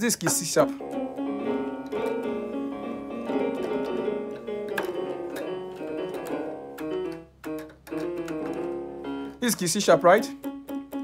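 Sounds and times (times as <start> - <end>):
electronic keyboard chords: 0.0 - 11.0.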